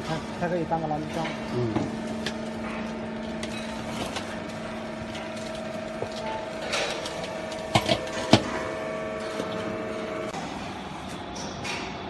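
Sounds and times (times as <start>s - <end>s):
hydraulic pump motor humming: 1.3s - 11.2s.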